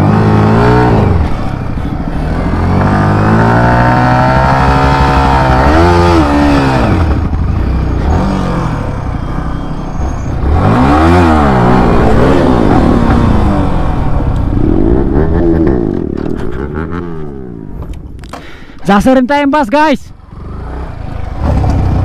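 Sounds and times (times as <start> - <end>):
motorcycle engine revving: 0.0 - 18.2, 20.2 - 22.0.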